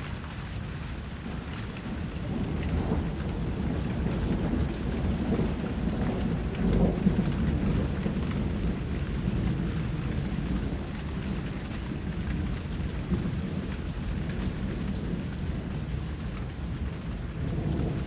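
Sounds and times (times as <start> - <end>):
steady rain: 0.0 - 18.0
thunder rumble: 0.0 - 18.0.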